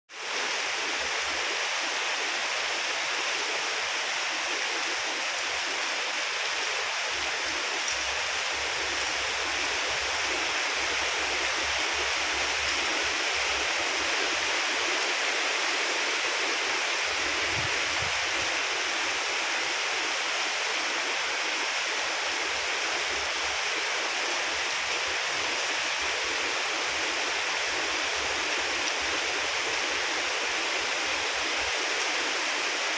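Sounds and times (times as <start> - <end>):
heavy rain pouring: 0.2 - 32.9.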